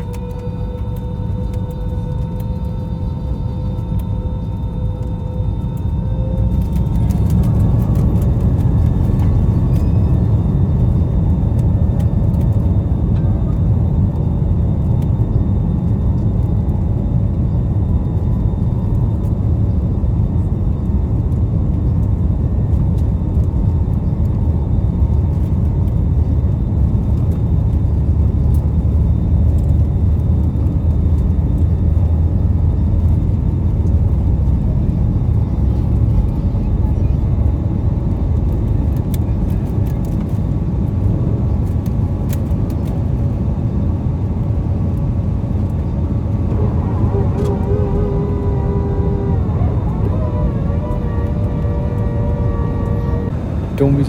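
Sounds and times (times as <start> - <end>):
faint whining tones: 0.0 - 54.0
jet engines roaring: 0.0 - 54.0.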